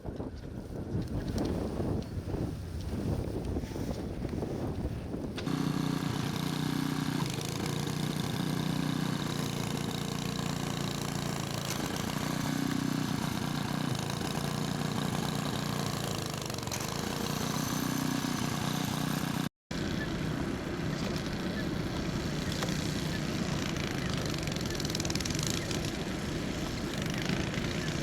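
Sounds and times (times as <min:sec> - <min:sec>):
engine running at low pitch: 0:05.3 - 0:28.0.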